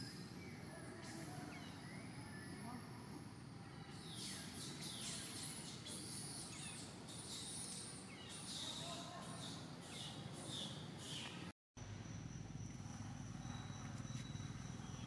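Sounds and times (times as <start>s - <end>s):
birds chirping: 0.0s - 15.0s
faint outdoor background noise: 0.0s - 15.0s.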